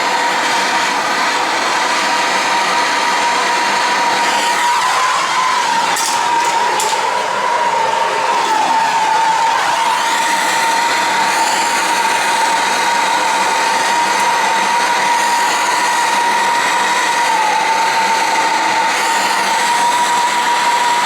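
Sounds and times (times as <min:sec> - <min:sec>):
torch hissing and whistling: 0:00.0 - 0:21.0.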